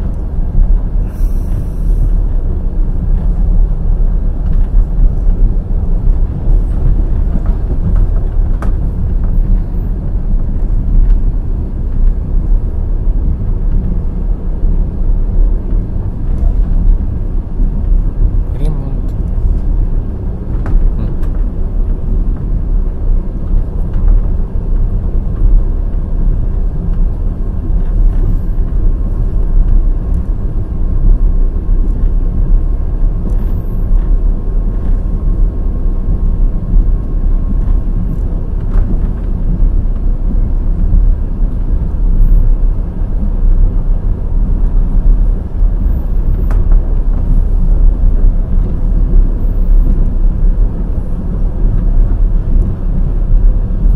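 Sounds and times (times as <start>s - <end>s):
train wheels rumbling on track: 0.0s - 53.9s.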